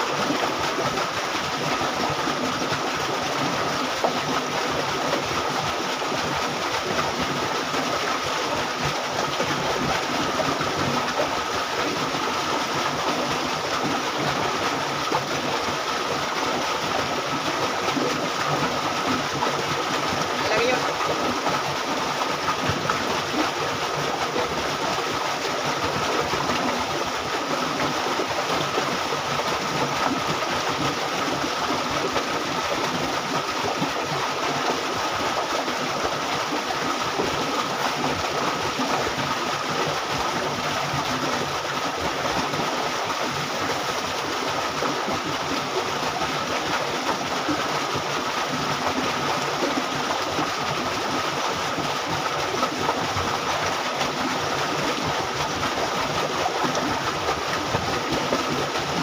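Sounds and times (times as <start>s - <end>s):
water rushing along canal: 0.0s - 59.0s.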